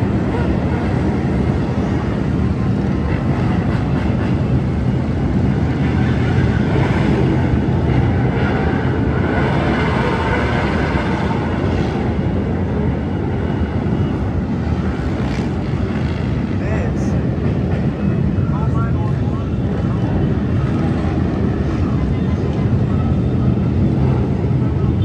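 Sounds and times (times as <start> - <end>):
motorcycle engines: 0.0 - 25.0.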